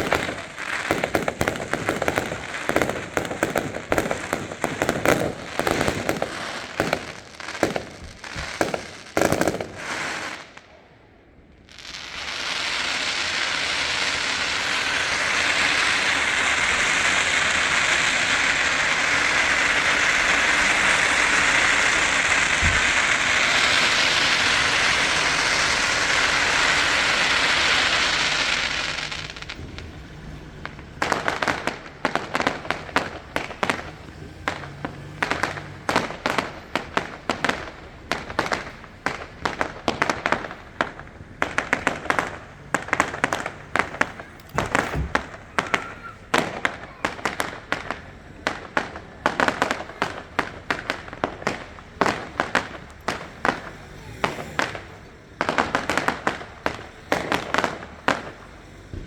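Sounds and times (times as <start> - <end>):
fireworks cracks and bangs: 0.0 - 59.0.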